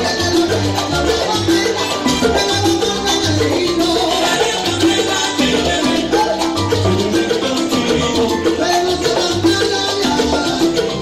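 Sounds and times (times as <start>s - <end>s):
bass line: 0.0s - 11.0s
conga drums: 0.0s - 11.0s
keyboard: 0.0s - 11.0s
maracas: 0.0s - 11.0s
salsa music: 0.0s - 11.0s.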